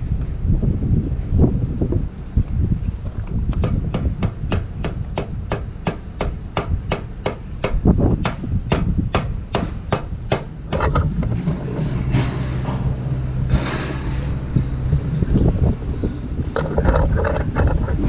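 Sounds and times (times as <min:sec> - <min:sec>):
sharp exhaust pops: 0:03.0 - 0:18.0.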